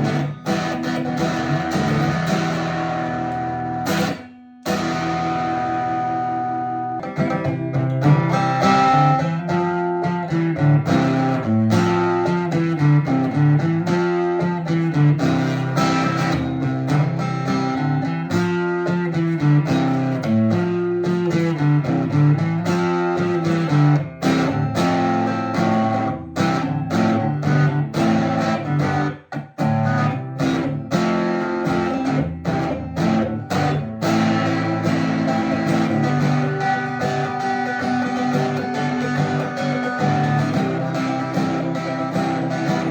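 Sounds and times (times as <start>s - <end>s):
acoustic guitar through pickup: 0.0s - 42.9s.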